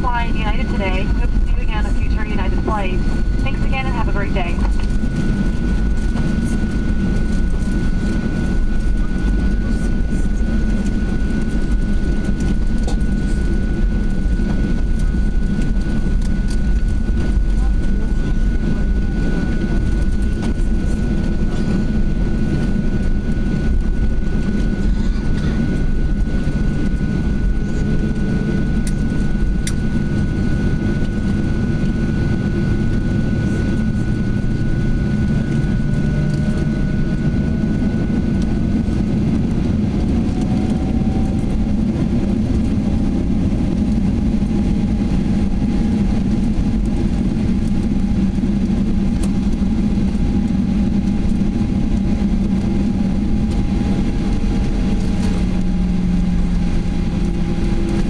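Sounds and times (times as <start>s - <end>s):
jet engines idling rumble: 0.0s - 58.0s.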